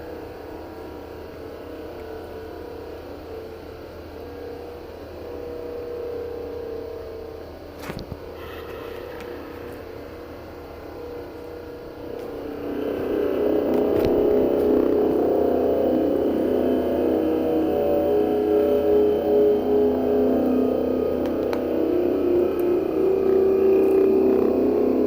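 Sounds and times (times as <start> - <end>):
steady low droning tones: 0.0 - 25.0.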